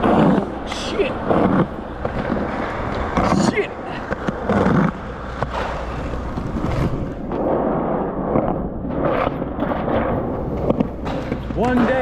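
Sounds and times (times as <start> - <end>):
skateboard wheels rolling on concrete: 0.0 - 12.0.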